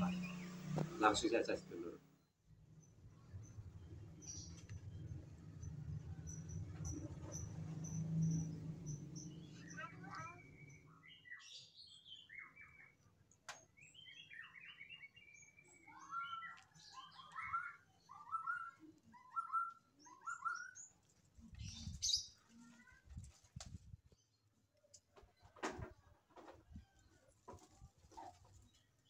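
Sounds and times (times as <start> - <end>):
small birds chirping: 0.0 - 26.1.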